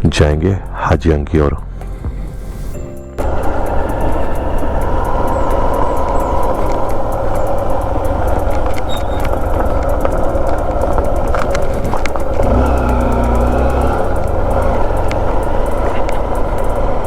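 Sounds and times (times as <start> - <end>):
motorcycle engine and road noise: 2.1 - 17.0
faint clicks: 3.2 - 17.0.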